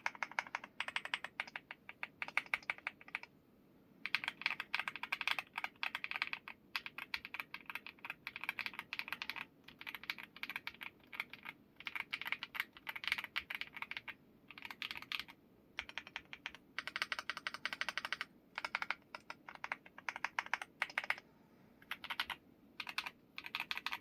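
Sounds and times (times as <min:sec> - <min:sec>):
mechanical keyboard typing: 0:00.0 - 0:03.3, 0:04.0 - 0:21.2, 0:21.8 - 0:24.0.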